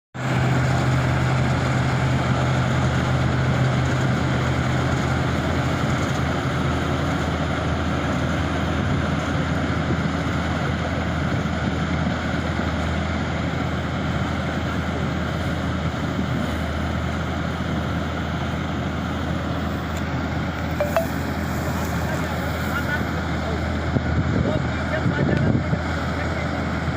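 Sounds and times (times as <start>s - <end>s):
harvesting machine engine hum: 0.2s - 26.9s.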